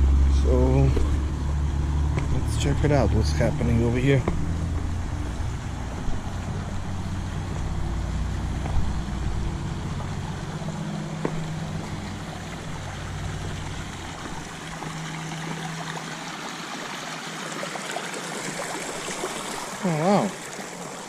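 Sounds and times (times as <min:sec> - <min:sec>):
vehicle engine hum: 0:00.0 - 0:17.6
creek water flowing: 0:00.0 - 0:21.0.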